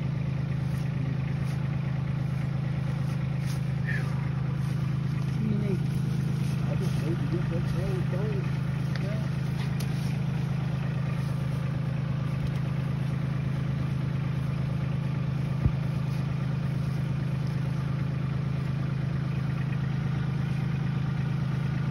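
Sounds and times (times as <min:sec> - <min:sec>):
diesel tractor engine idling: 0:00.0 - 0:21.9.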